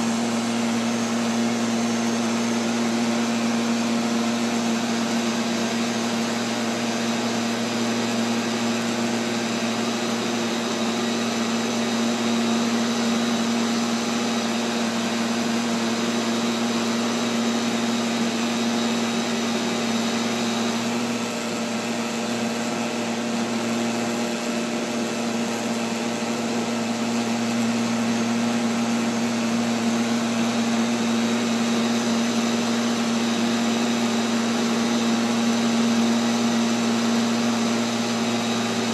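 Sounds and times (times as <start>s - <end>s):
robotic vacuum cleaner hum: 0.0s - 38.9s.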